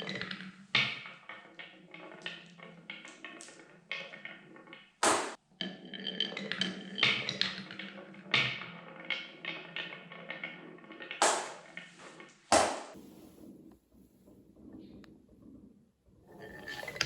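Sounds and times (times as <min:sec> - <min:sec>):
marbles rolling on wooden track: 0:00.0 - 0:17.0.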